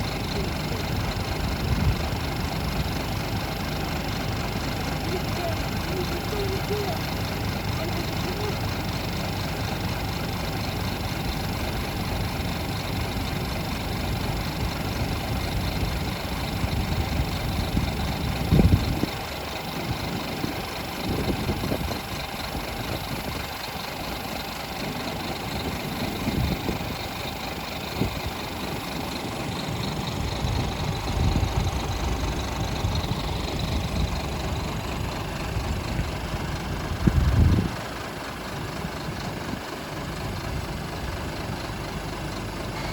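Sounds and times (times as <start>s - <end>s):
truck diesel engine idling: 0.0s - 42.9s.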